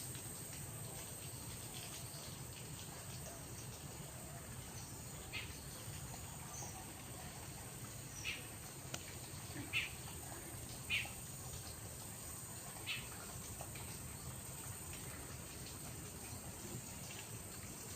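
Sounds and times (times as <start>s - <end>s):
steady low background noise: 0.0s - 17.9s.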